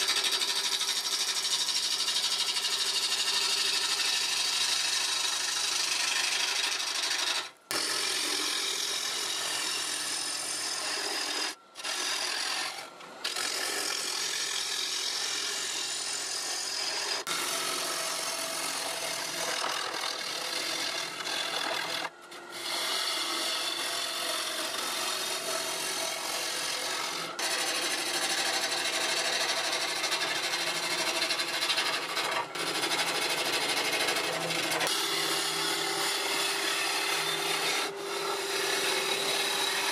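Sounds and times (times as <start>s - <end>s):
gouge shaving wood on lathe: 0.0s - 39.9s
low lathe hum: 0.4s - 39.9s.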